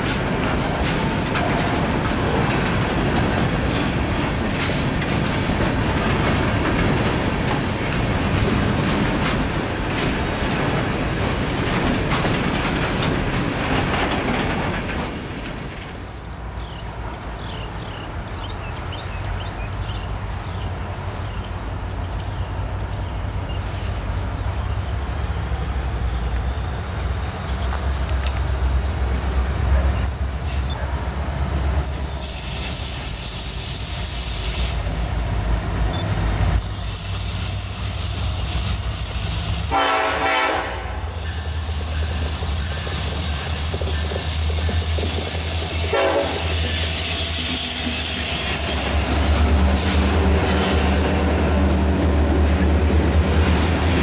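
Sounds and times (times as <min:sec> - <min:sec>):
train wheels clacking on rails: 0:00.0 - 0:21.4, 0:22.1 - 0:54.0
diesel locomotive rumble: 0:00.0 - 0:54.0.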